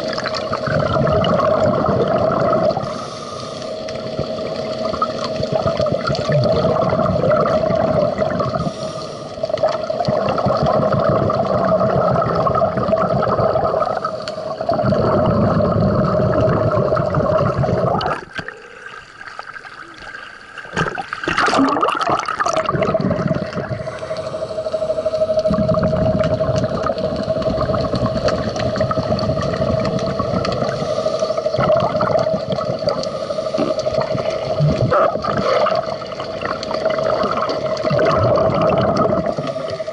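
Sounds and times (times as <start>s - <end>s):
mechanical hum: 0.0s - 39.9s
underwater bubbling water: 0.0s - 39.9s.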